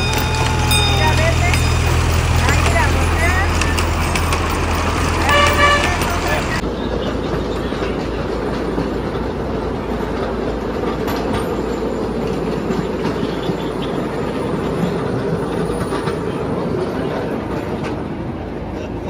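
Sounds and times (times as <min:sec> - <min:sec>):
ride train rumbling: 0:00.0 - 0:19.0
wheels clattering on rails: 0:00.0 - 0:19.0.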